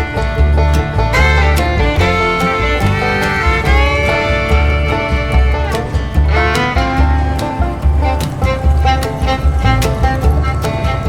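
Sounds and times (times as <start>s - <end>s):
background music with steady beat: 0.0s - 11.0s
pulsing bass line: 0.0s - 11.0s.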